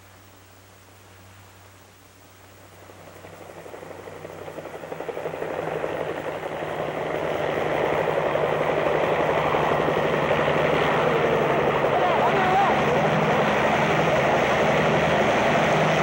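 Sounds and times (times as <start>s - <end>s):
helicopter engine drone: 2.6s - 16.0s
helicopter rotors chopping: 2.8s - 16.0s.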